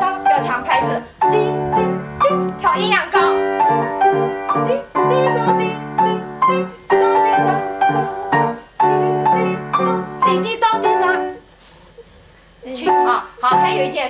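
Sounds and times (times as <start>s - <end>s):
piano duet: 0.0s - 12.0s, 12.6s - 14.0s.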